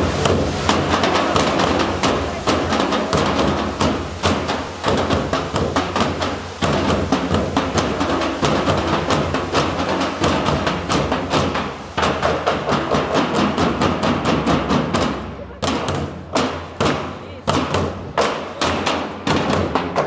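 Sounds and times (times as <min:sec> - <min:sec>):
drumming on metal barrels: 0:00.0 - 0:20.0.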